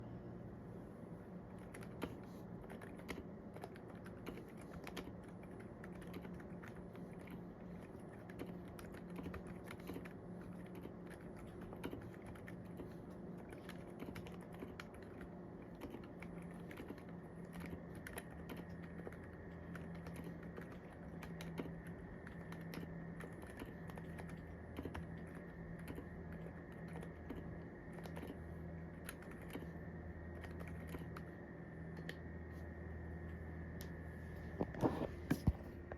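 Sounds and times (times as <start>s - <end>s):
faint steady hum: 0.0s - 35.9s
mechanical keyboard typing: 1.6s - 31.3s.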